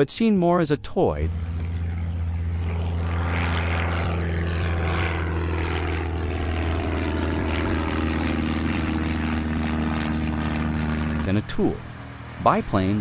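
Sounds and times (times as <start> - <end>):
airplane piston engine drone: 1.2 - 13.0.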